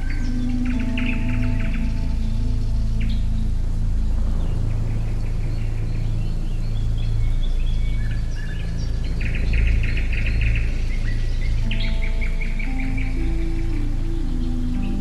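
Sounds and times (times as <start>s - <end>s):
birds chirping: 0.0s - 15.0s
low background hum: 0.0s - 15.0s.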